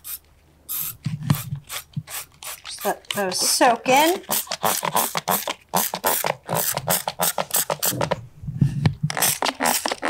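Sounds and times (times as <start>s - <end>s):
spray bottle squirting: 0.0s - 8.2s, 9.1s - 10.0s.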